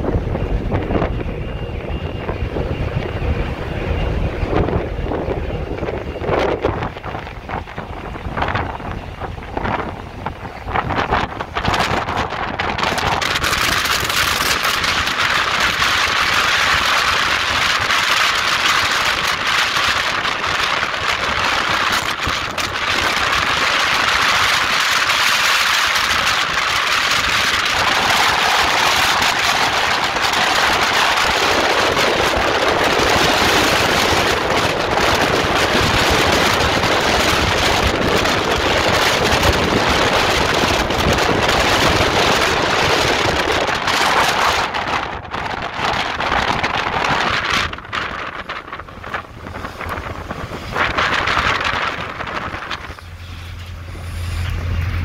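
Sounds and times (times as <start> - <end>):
wind buffeting microphone: 0.0 - 55.0
bow wave and spray rushing: 2.5 - 55.0.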